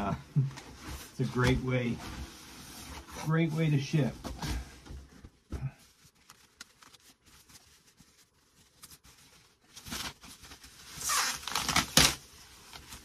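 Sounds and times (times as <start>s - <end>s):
foam wrap and plastic bag rustling: 0.0s - 13.0s.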